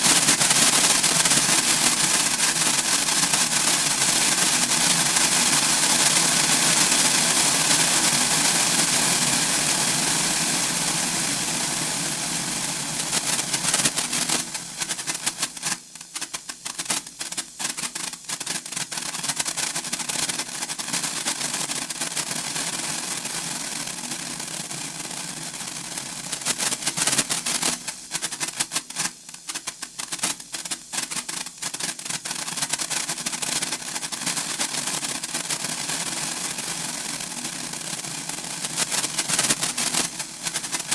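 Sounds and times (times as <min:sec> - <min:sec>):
sparklers crackling and fizzing: 0:00.0 - 0:40.9.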